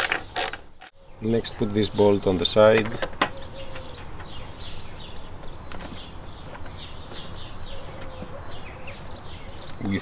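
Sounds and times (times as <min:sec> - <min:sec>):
birds chirping falling notes: 0:00.0 - 0:10.0.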